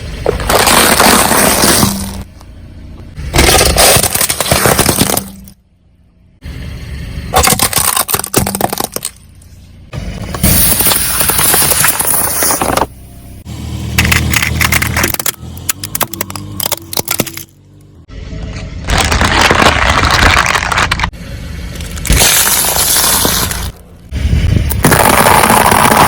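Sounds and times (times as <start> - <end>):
objects crunching under car tyre: 0.0 - 5.6, 7.3 - 13.0, 14.0 - 17.6, 18.4 - 26.0
low rumble: 0.0 - 26.0.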